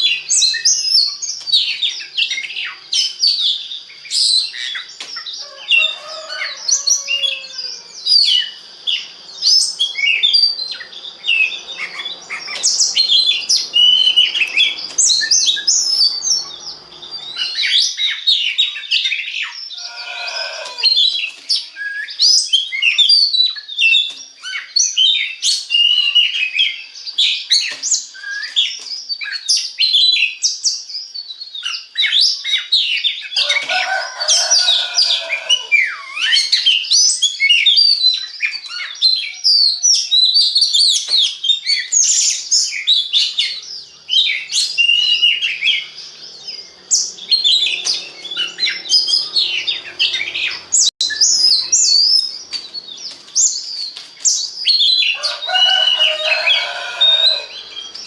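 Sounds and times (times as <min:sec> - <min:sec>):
bird singing chirps and trills: 0:00.0 - 0:58.0.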